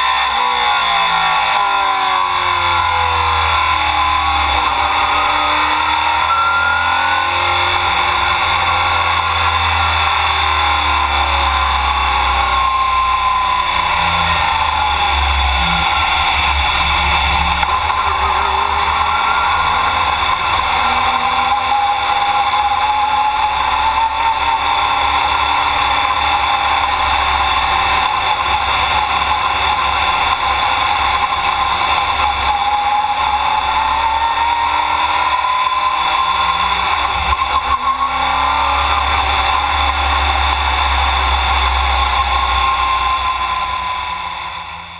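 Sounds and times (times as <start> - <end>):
race car engine from cockpit: 0.0 - 44.9.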